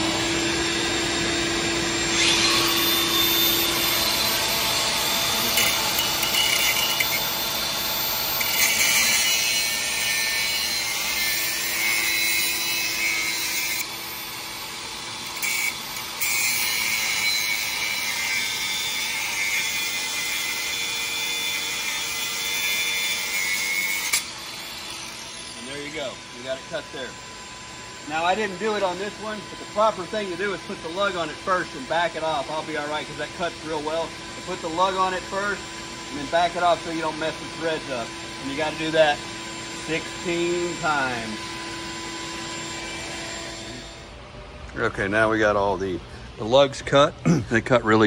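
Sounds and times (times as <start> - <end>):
angle grinder cutting steel: 0.0 - 27.2, 28.1 - 44.0
shop vac humming: 0.0 - 48.0.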